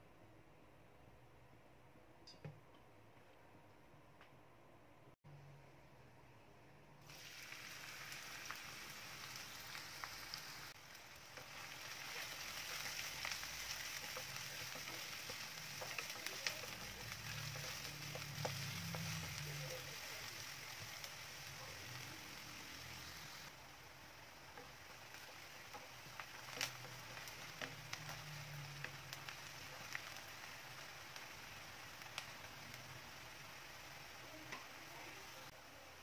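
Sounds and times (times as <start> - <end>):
food sizzling in hot oil: 7.0 - 36.0.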